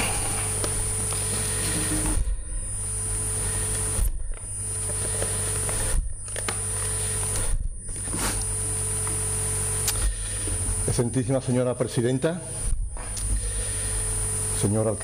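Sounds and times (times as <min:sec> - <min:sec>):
electrical hum and hiss: 0:00.0 - 0:15.0
thin high whine: 0:00.0 - 0:15.0.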